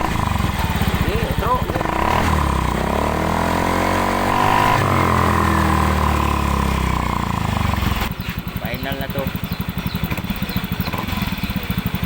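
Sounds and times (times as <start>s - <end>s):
scooter engine revving: 0.0s - 12.0s.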